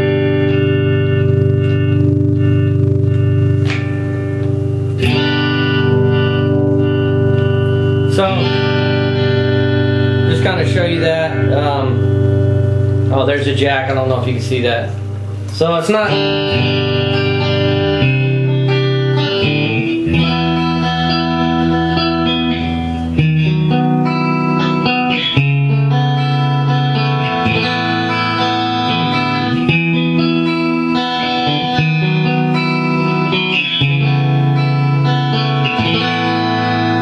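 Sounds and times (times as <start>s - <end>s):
clean electric guitar chords: 0.0s - 37.0s.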